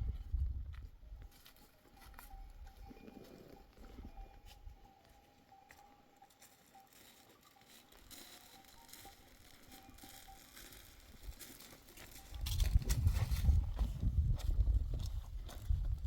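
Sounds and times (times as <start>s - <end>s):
faint steady high tone: 0.1s - 14.0s
faint ticks and rustles: 0.1s - 16.0s.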